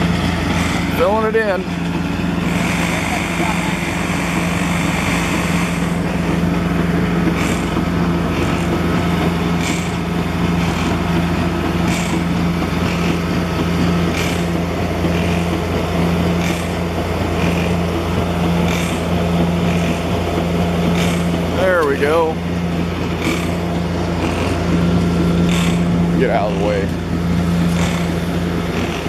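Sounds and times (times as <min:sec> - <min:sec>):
concrete pump strokes: 0:00.0 - 0:29.0
diesel engine droning: 0:00.0 - 0:29.0.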